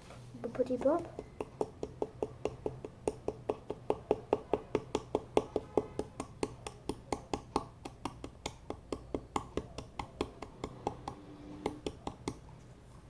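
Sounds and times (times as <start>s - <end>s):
rapid tapping on container: 0.7s - 12.4s.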